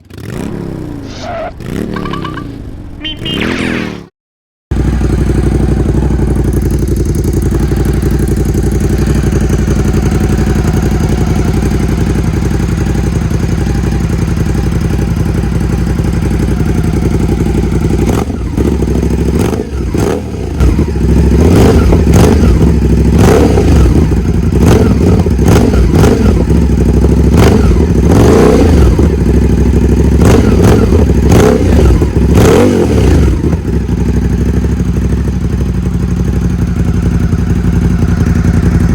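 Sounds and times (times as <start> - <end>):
motorcycle engine revving: 0.0 - 4.1, 4.7 - 38.9.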